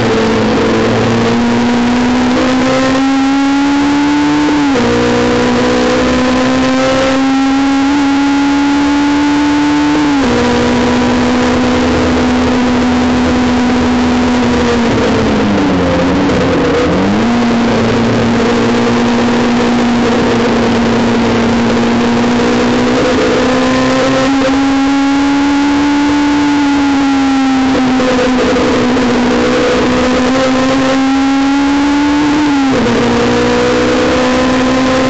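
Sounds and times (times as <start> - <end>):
car engine at high revs: 0.0 - 35.0.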